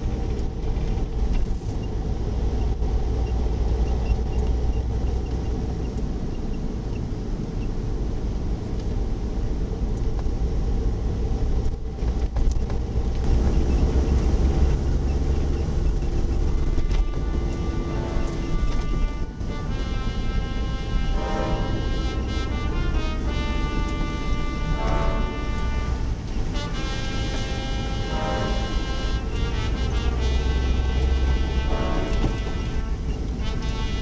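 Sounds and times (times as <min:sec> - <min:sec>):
car engine rumbling: 0:00.0 - 0:34.0
road noise: 0:00.0 - 0:34.0.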